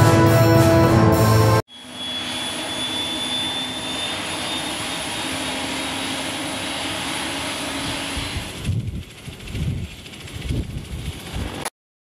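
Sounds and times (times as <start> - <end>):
aircraft turbine engines running: 1.3 - 11.7
high turbine whine: 1.7 - 11.7.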